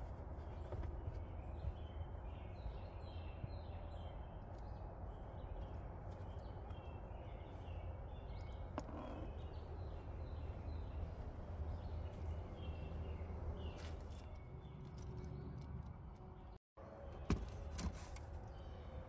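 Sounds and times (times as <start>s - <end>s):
small birds chirping: 0.0s - 17.3s.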